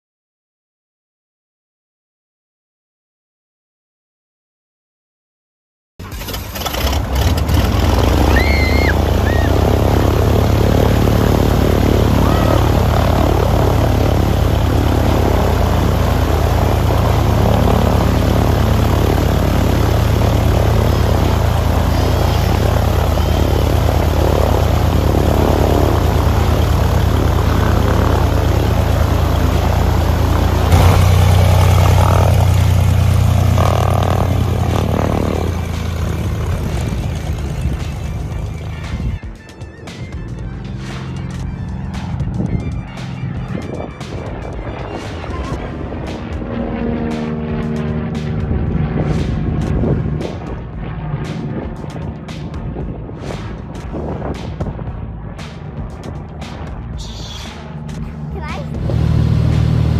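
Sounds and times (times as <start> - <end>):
propeller plane engine running: 6.0 - 59.9.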